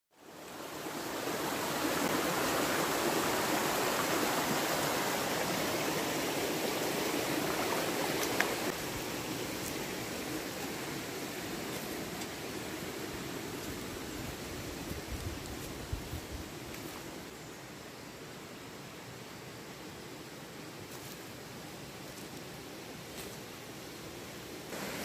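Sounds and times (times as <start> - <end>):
running water rushing: 0.2 - 17.3, 21.3 - 25.0.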